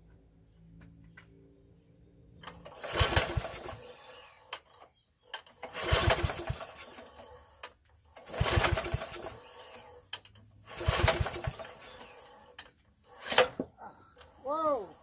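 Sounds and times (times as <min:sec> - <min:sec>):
mower engine turning over: 0:02.4 - 0:15.0
recoil starter rope whirring: 0:02.4 - 0:15.0.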